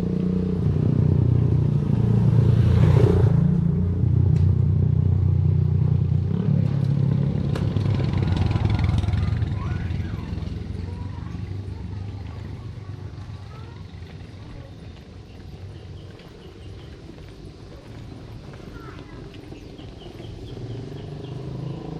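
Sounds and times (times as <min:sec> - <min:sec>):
vehicle engine humming: 0:00.0 - 0:21.9.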